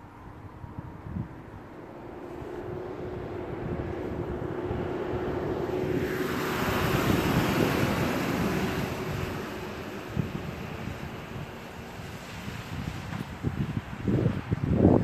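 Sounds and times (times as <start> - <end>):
bus passing by: 0.0 - 15.0
wind on microphone: 0.0 - 15.0.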